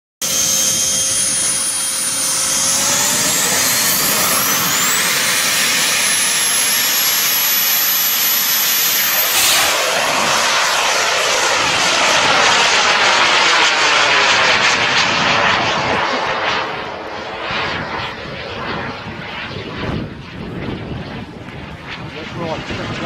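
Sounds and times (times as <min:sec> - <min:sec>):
jet exhaust rush: 0:00.2 - 0:23.0
turbine engine whine: 0:00.2 - 0:23.0.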